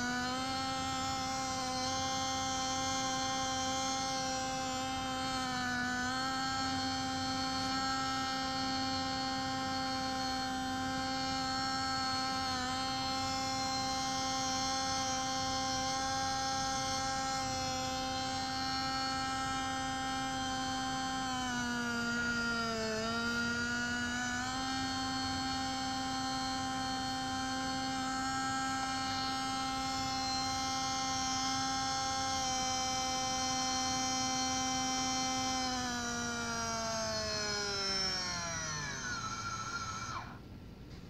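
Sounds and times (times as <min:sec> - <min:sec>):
model excavator motor whine: 0:00.0 - 0:41.0.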